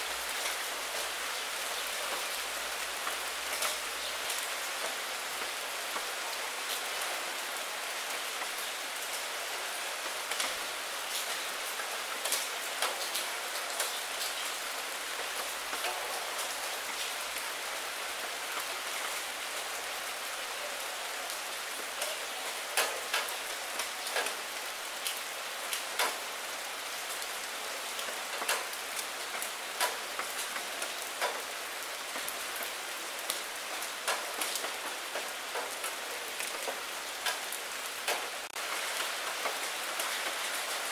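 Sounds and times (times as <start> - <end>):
rain on puddle and wet leaves: 0.0 - 40.9.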